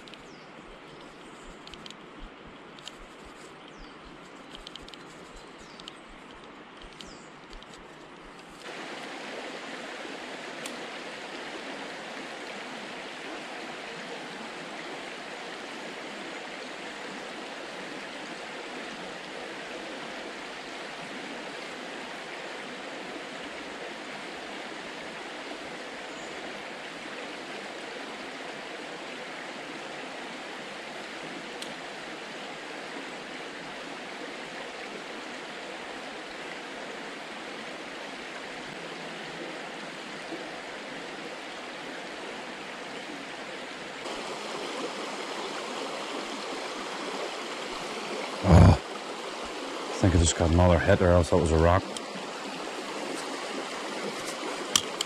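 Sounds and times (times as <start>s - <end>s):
river flowing over stones: 0.0s - 55.0s.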